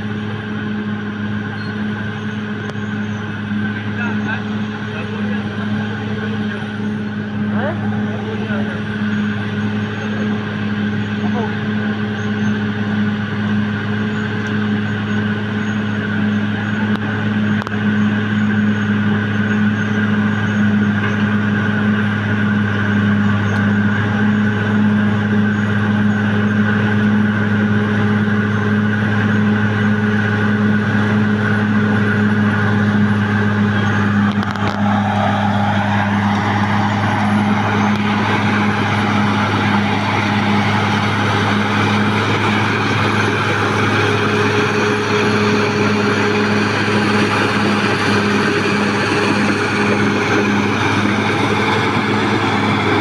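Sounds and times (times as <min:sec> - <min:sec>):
bulldozer diesel engine droning: 0:00.0 - 0:53.0
rising whine: 0:00.0 - 0:53.0.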